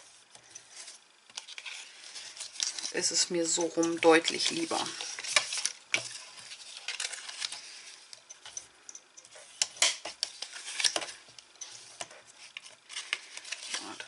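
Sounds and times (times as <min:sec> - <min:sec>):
paper rustling and sliding: 0:00.0 - 0:08.2, 0:09.3 - 0:14.0.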